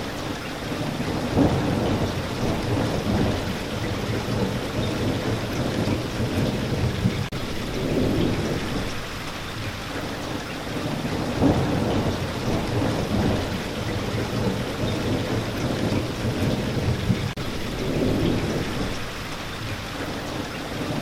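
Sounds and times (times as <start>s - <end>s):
steady rain: 0.0s - 21.0s
rolling rumble of thunder: 0.7s - 9.7s, 10.7s - 21.0s.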